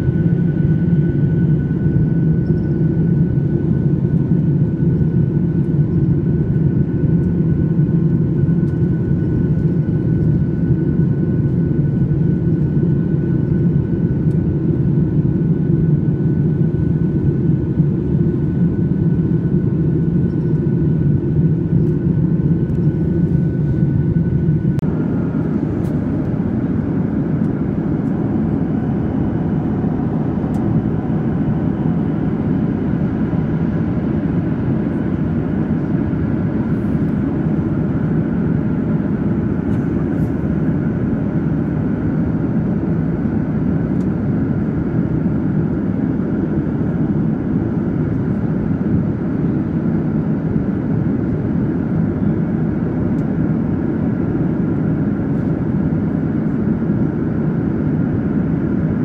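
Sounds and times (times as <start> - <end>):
airplane cabin jet engine rush: 0.0 - 59.0.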